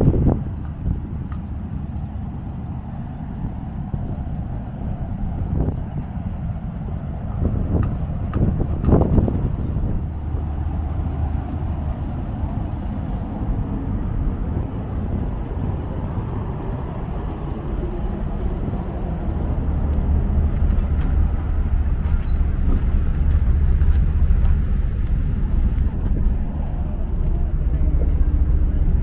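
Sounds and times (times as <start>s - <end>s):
city low rumble: 0.0s - 29.0s.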